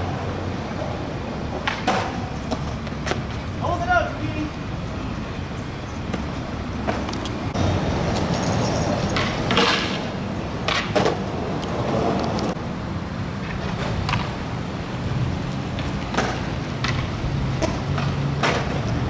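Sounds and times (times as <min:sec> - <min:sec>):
skateboard wheels rolling on pavement: 0:00.0 - 0:19.0.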